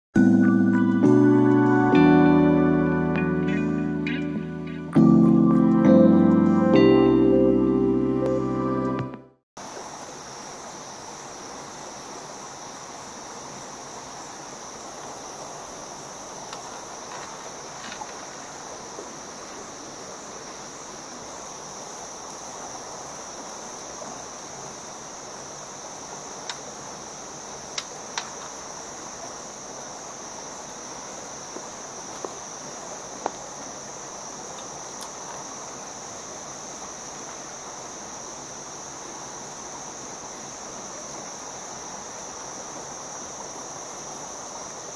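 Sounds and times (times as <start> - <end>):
insects droning: 0.2 - 9.0, 9.6 - 44.9.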